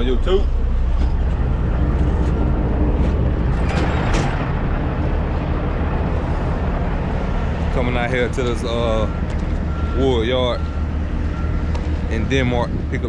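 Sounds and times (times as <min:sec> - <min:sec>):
diesel truck rumbling: 0:00.0 - 0:13.0
road noise: 0:00.0 - 0:13.0.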